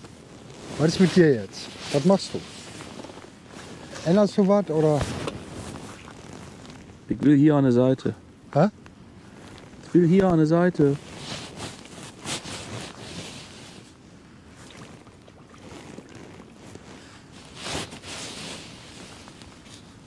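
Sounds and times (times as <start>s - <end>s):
rustles: 0.0s - 8.0s, 8.6s - 20.0s.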